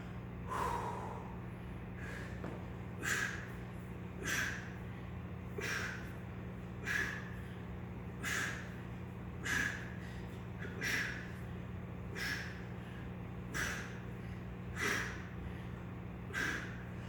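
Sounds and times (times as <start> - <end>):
man breathing heavily: 0.0 - 17.0
steady low hum: 0.0 - 17.0.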